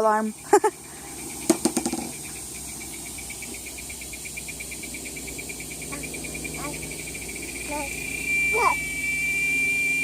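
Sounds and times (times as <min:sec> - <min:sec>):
rapid high-pitched animal chirps: 0:00.3 - 0:09.7.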